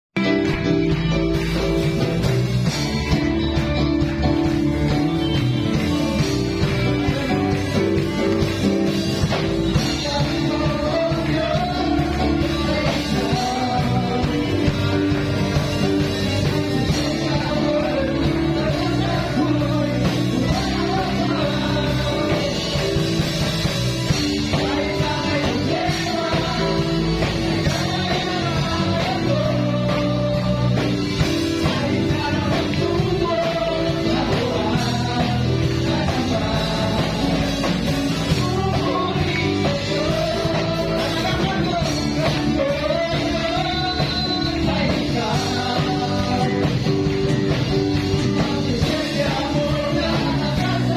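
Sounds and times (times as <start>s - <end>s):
electric guitar: 0.0s - 50.9s
drum kit: 0.1s - 50.9s
keyboard: 0.1s - 50.9s
man singing: 3.0s - 50.9s.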